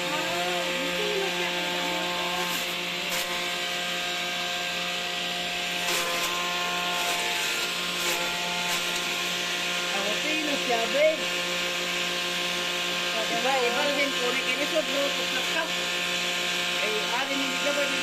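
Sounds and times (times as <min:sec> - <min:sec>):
shredder motor hum: 0:00.0 - 0:18.0.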